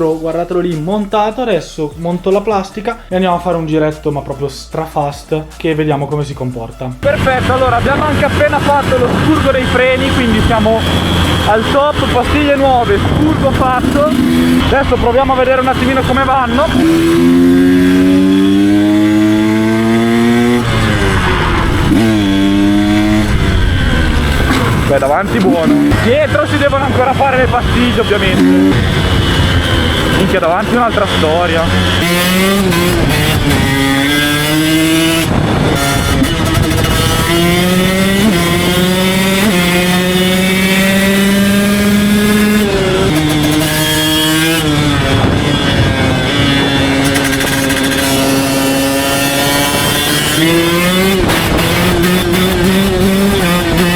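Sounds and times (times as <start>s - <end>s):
dirt bike engine revving: 7.0s - 53.9s.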